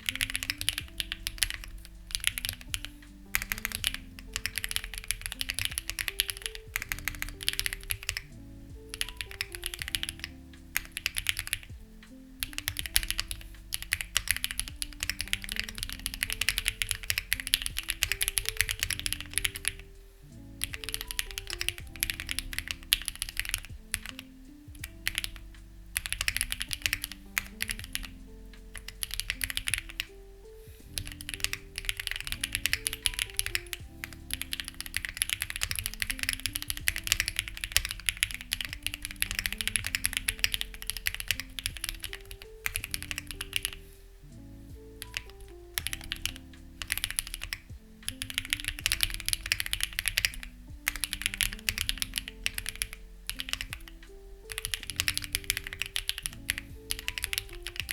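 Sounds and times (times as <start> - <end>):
mechanical keyboard typing: 0.0 - 11.8, 12.4 - 19.9, 20.6 - 30.2, 30.9 - 43.8, 44.7 - 57.9
soft background music: 0.0 - 57.9.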